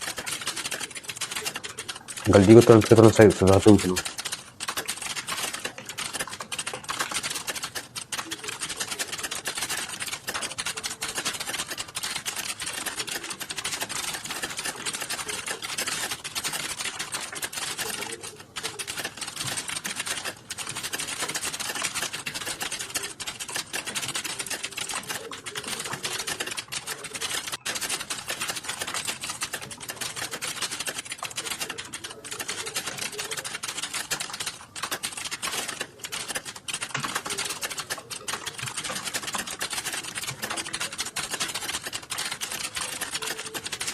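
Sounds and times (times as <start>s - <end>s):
typing on a computer keyboard: 0.0s - 43.9s.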